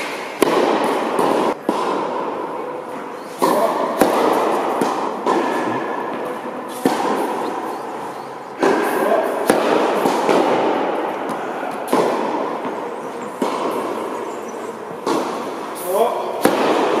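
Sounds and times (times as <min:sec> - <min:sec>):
echo in large indoor hall: 0:00.0 - 0:17.0
tennis balls bouncing on hard court: 0:00.0 - 0:17.0
tennis balls hit by rackets: 0:00.0 - 0:17.0.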